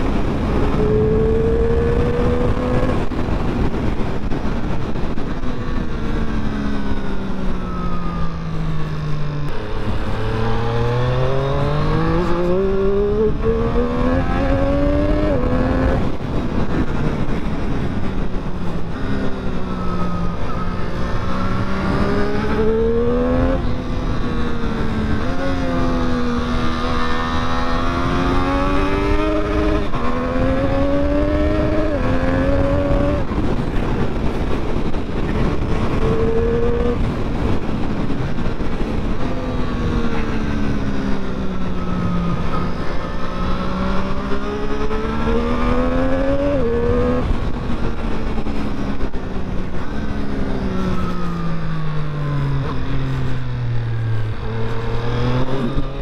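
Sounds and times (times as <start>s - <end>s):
motorcycle engine revving: 0.0s - 56.0s
wind rushing: 9.7s - 56.0s.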